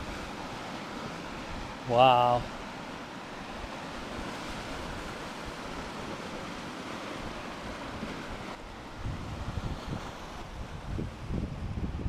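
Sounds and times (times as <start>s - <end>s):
wind on microphone: 0.0s - 1.8s, 3.6s - 12.0s
lake waves washing against rocks: 0.0s - 12.0s.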